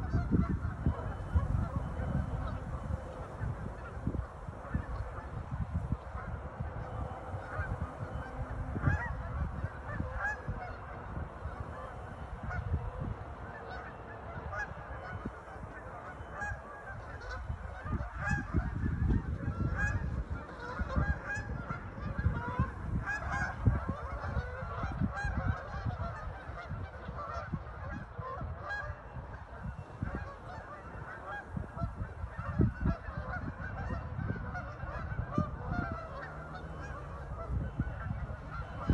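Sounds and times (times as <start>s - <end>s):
waterfowl calling: 0.0s - 38.9s.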